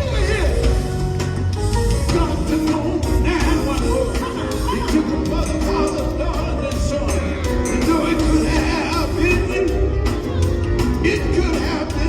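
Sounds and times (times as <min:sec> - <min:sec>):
gospel band with bass and drums: 0:00.0 - 0:12.0
voices singing: 0:02.1 - 0:12.0.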